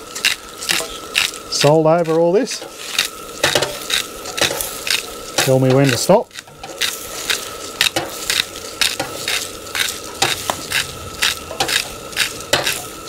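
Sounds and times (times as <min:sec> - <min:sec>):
rice sizzling: 0:00.0 - 0:13.0
spatula scraping a wok: 0:00.0 - 0:13.0.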